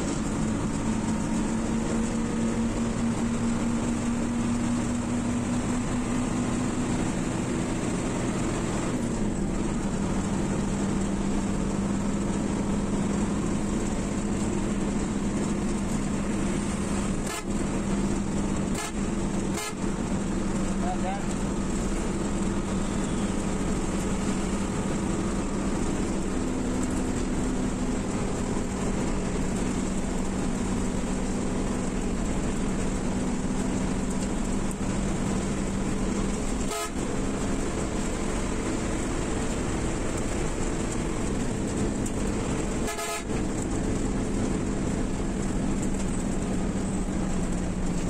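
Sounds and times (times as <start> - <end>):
bus engine and road noise: 0.0 - 48.0.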